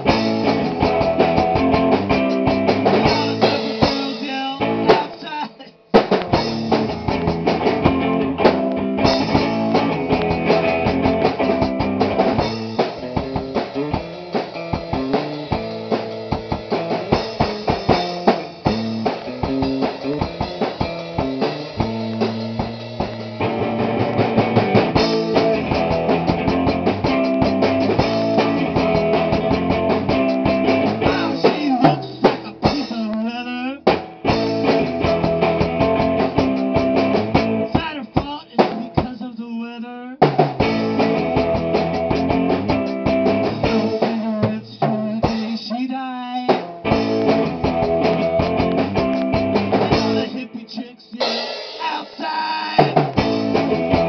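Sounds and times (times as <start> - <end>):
drum kit hits: 0.0 - 33.2, 33.8 - 39.2, 40.2 - 45.7, 46.4 - 50.4, 51.2 - 54.0
electric guitar: 0.0 - 39.2, 40.3 - 54.0
rock band playing: 0.0 - 39.3, 40.2 - 54.0.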